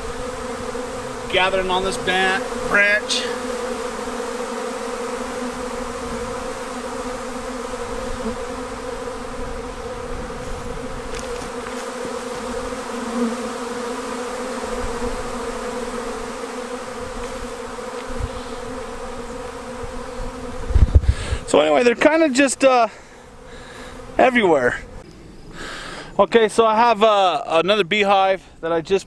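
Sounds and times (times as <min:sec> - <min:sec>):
bee swarm buzzing: 0:00.0 - 0:26.1.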